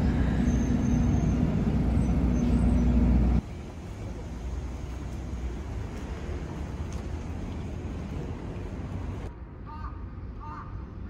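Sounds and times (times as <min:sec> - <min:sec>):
vehicle engine rumbling: 0:00.0 - 0:09.3
street ambience: 0:00.0 - 0:11.0.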